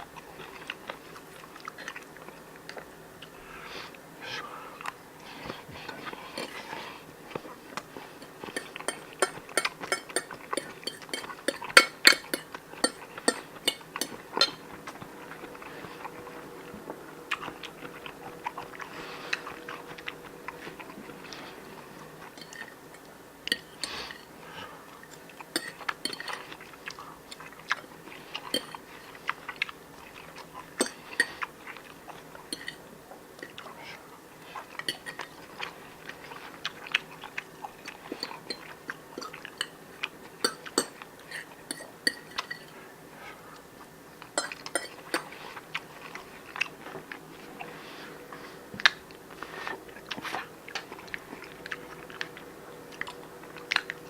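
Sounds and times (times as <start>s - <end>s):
chewing: 0.0s - 54.0s.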